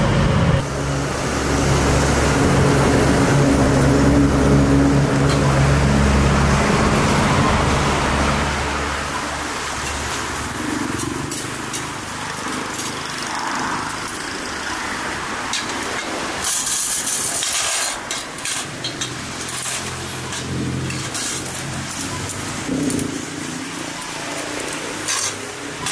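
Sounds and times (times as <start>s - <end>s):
motor vehicle humming: 0.0s - 25.9s
street noise: 0.0s - 25.9s.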